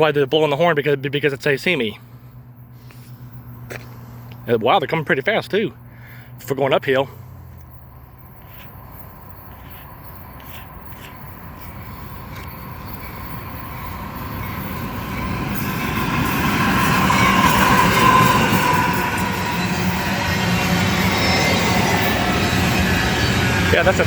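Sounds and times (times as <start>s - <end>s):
train engine rumble: 0.0s - 24.0s
train wheel noise: 0.0s - 24.0s
high whine: 1.1s - 24.0s.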